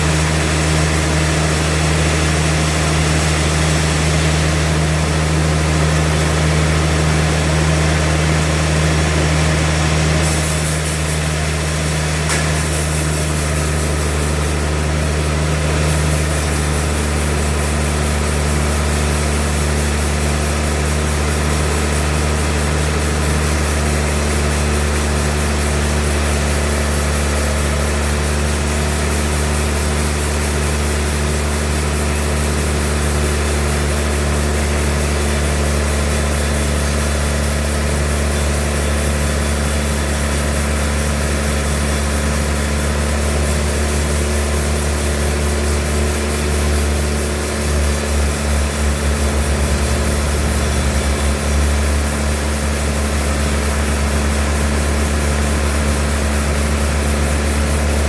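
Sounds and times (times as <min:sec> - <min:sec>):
sawmill machinery humming: 0:00.0 - 0:58.0
high hiss: 0:10.2 - 0:58.0.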